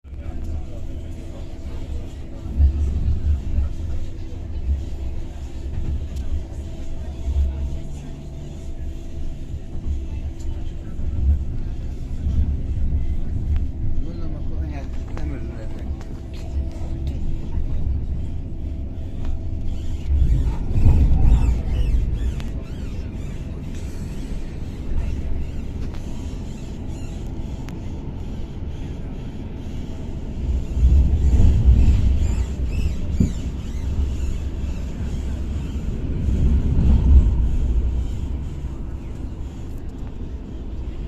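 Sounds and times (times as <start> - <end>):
wheels rumbling on rail: 0.0 - 41.0
faint hum: 0.1 - 41.0.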